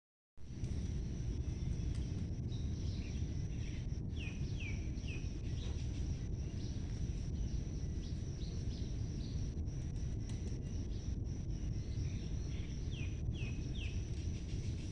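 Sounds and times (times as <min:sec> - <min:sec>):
steady low rumble: 0:00.4 - 0:14.9.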